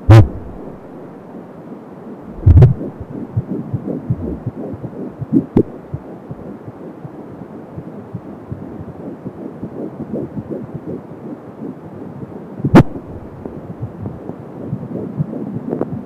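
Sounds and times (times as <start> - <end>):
steady hiss: 0.0 - 16.0
fetal heartbeat pulsing whoosh: 0.1 - 0.8, 2.3 - 16.0.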